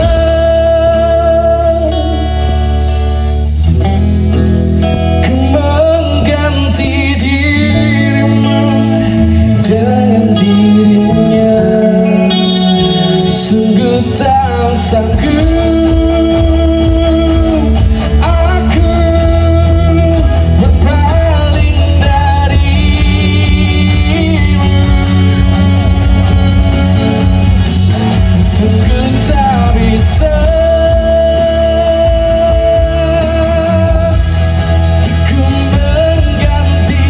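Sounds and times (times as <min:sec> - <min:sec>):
acoustic guitar: 0:00.0 - 0:37.0
person singing pop ballad: 0:00.0 - 0:37.0.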